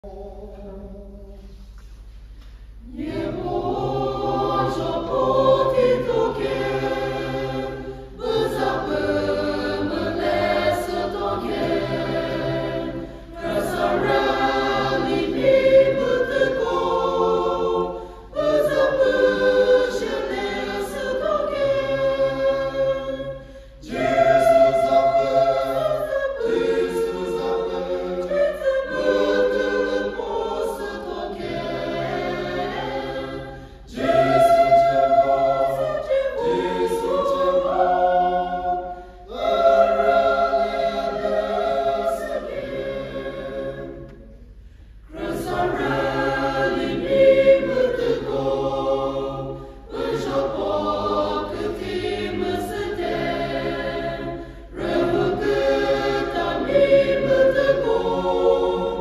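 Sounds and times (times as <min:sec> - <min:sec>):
mixed choir singing: 0:00.0 - 0:01.8, 0:02.7 - 0:59.0.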